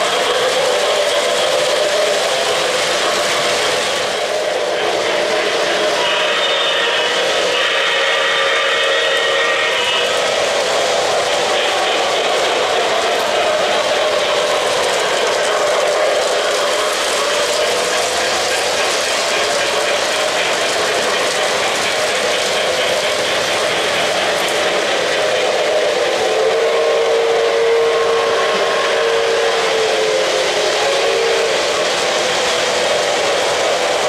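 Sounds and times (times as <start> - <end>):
model train wheels rumbling on rails: 0.0 - 34.0.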